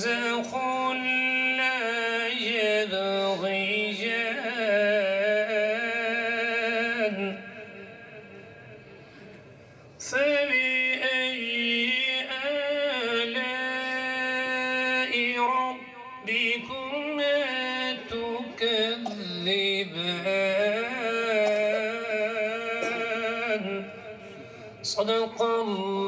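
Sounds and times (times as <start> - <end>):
man chanting into a microphone: 0.0 - 9.0, 10.0 - 26.0.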